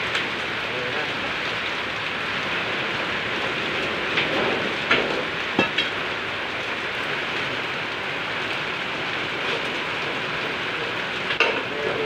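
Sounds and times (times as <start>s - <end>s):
steady rushing noise: 1.0s - 11.4s.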